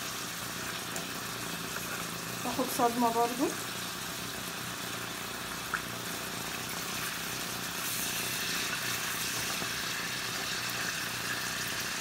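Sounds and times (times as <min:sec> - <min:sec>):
steaks sizzling in butter: 0:00.0 - 0:12.0.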